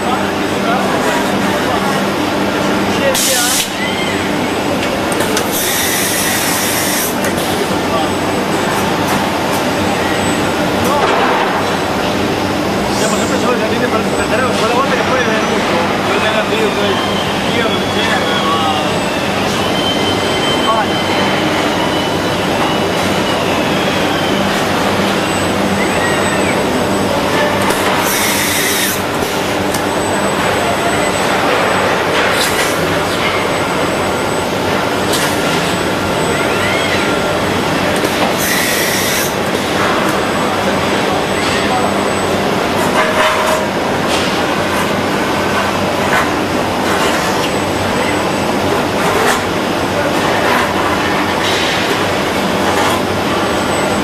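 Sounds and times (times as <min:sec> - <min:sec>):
factory machine hum: 0:00.0 - 0:54.0.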